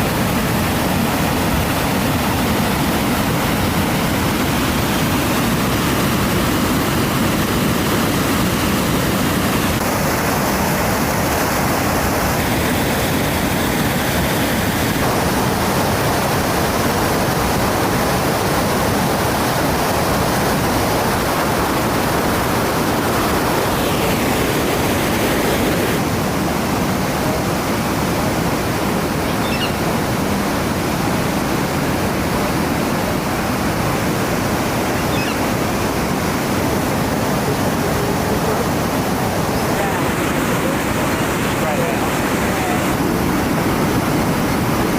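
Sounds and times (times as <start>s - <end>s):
water rushing over a weir: 0.0s - 44.9s.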